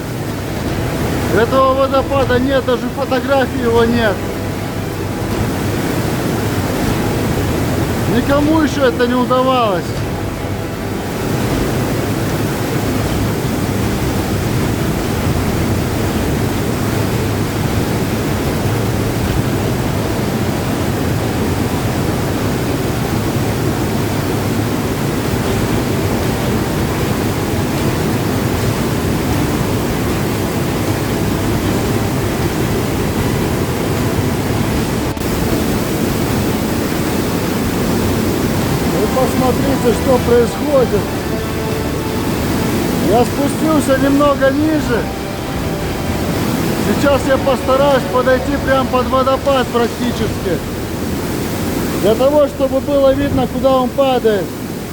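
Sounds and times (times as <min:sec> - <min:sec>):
waterfall rushing in a cave: 0:00.0 - 0:54.9.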